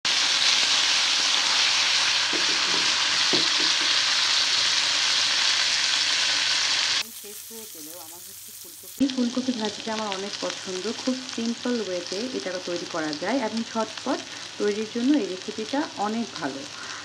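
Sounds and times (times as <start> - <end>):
vegetables sizzling in hot oil: 0.1 - 17.0.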